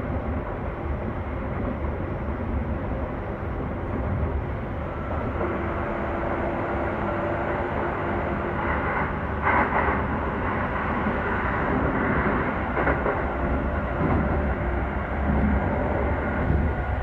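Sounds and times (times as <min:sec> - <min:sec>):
train clatters: 0:00.0 - 0:17.0
train wheels rumbling on rail: 0:00.0 - 0:17.0.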